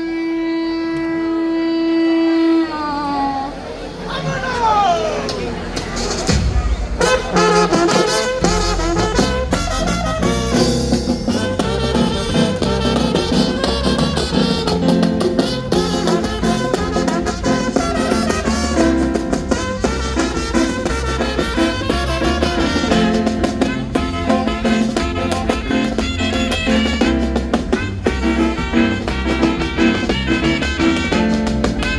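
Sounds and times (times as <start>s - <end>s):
brass horns and trumpets: 0.0s - 31.9s
steady drum beat: 5.8s - 31.9s.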